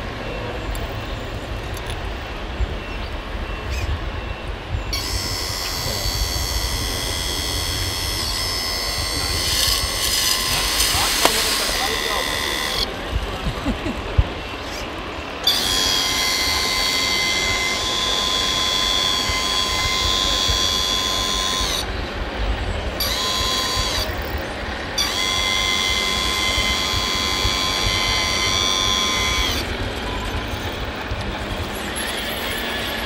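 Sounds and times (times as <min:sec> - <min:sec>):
toy truck drive running: 0:00.6 - 0:02.1, 0:04.9 - 0:13.4, 0:14.0 - 0:33.0
electric hydraulic pump whining: 0:04.5 - 0:13.4, 0:14.0 - 0:33.0.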